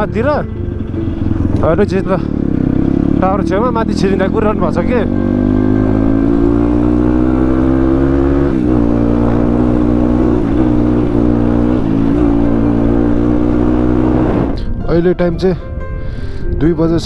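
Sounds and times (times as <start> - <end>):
dirt bike engine running: 0.0 - 14.6.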